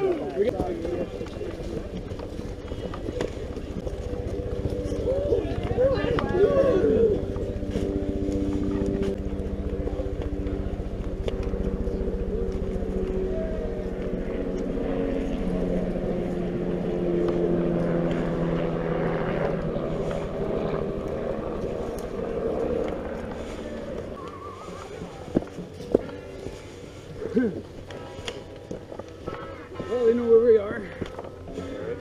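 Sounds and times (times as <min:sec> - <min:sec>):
engine drone: 0:00.0 - 0:32.0.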